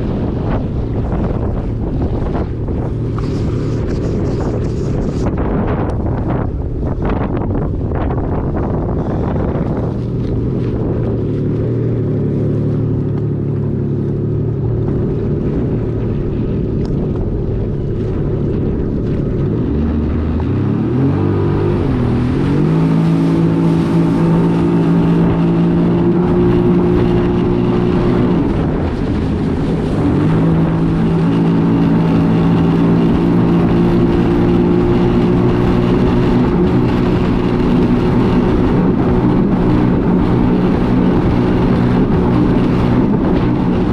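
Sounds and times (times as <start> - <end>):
personal watercraft engine revving: 0.0 - 43.9
water noise: 0.0 - 43.9
wind noise: 0.0 - 43.9.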